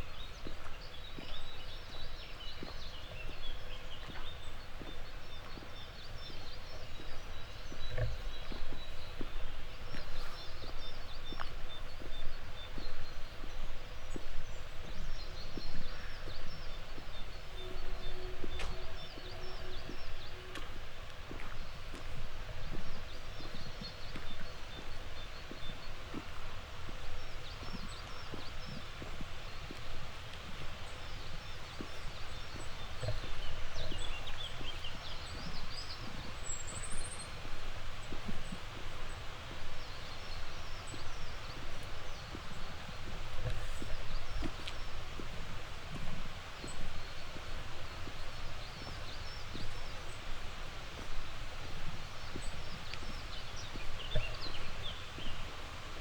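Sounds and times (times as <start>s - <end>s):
faint footsteps walking: 0.0s - 56.0s
songbirds chirping: 0.0s - 56.0s.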